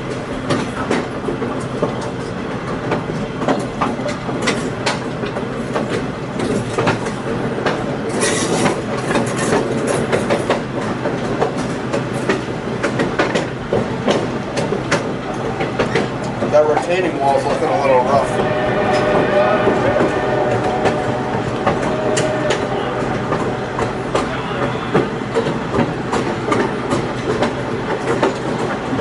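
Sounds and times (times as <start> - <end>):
train rumbling along track: 0.0 - 29.0.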